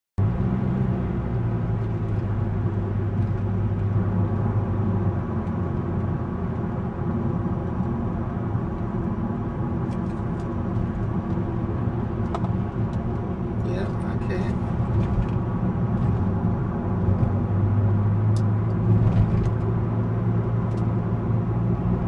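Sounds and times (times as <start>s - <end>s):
engine and road rumble in car: 0.2s - 22.0s.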